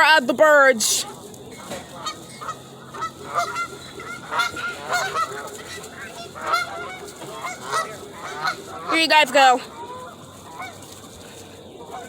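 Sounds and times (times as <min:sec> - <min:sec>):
flock of birds calling: 0:00.0 - 0:12.0.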